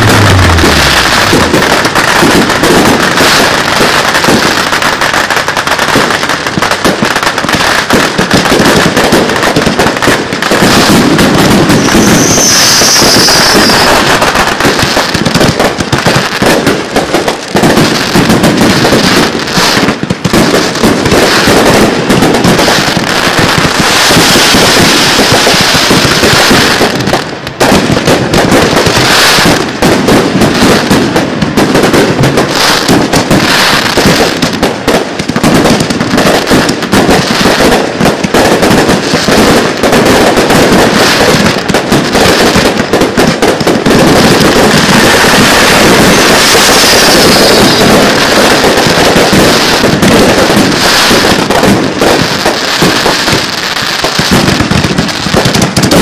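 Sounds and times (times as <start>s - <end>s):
fireworks shell bursts and crackle: 0.0s - 56.0s.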